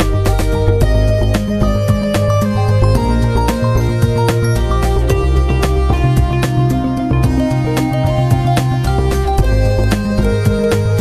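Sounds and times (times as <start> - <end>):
plucked string music with beat: 0.0 - 11.0.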